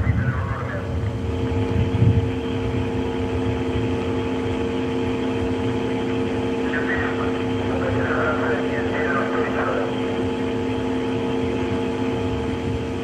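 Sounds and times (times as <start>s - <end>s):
constant low hum: 0.0s - 13.0s
steady rushing noise: 0.0s - 13.0s.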